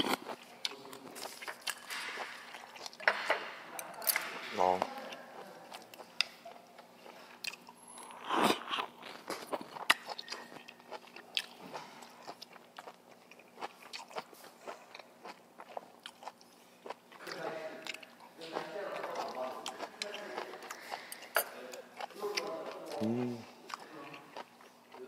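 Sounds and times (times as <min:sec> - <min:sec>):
chewing and crunching: 0:00.0 - 0:25.0.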